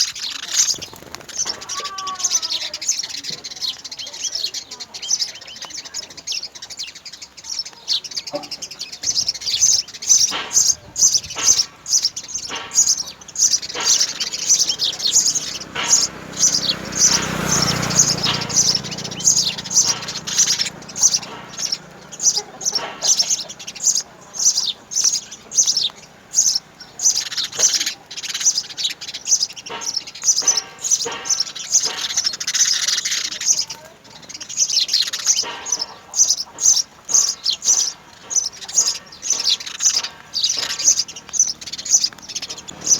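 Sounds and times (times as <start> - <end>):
sparrows chirping rapidly: 0.0 - 42.9.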